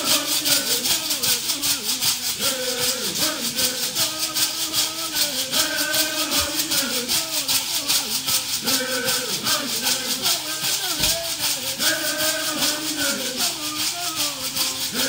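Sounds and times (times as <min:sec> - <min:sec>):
men singing: 0:00.0 - 0:15.0
shell shakers shaking: 0:00.0 - 0:15.0.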